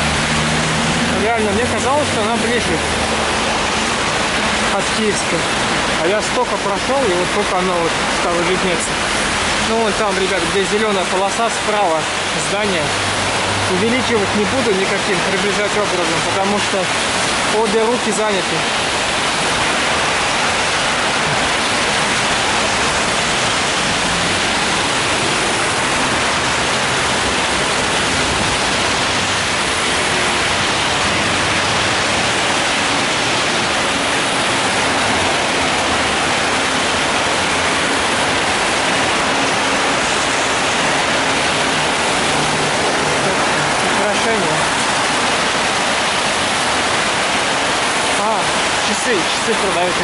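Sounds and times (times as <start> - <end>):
heavy rain on an umbrella: 0.0 - 50.0
traffic on wet road: 0.0 - 50.0.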